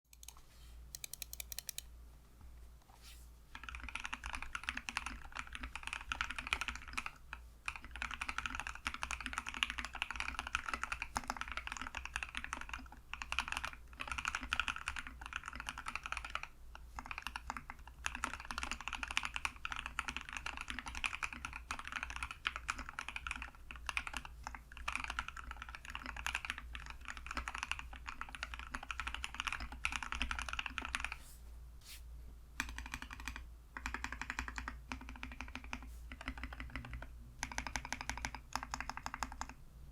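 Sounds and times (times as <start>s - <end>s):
mechanical keyboard typing: 0.1s - 1.9s, 3.6s - 31.2s, 32.6s - 39.6s.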